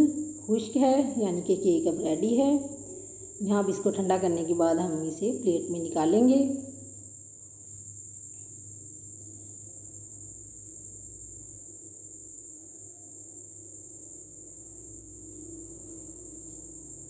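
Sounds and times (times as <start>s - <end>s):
cricket trill: 0.0s - 17.0s
faint low hum: 0.0s - 17.0s.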